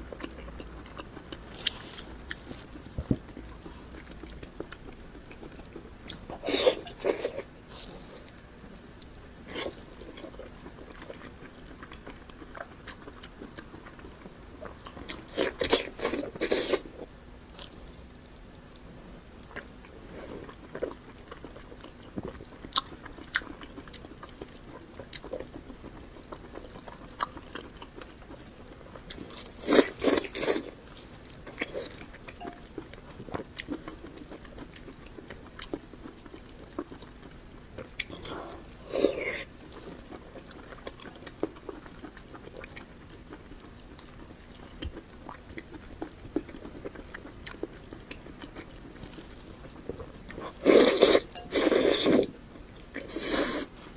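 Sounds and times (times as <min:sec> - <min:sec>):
wet chewing and mouth clicks: 0:00.0 - 0:53.9.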